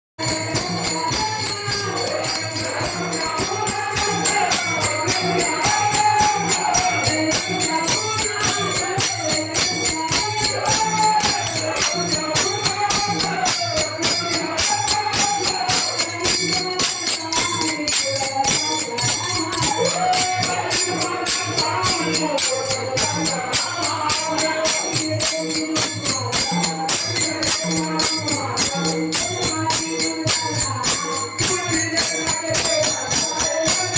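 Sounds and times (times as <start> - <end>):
drum beat: 0.2 - 33.9
hand cymbals clashing: 0.2 - 33.9
voices singing: 0.2 - 33.9.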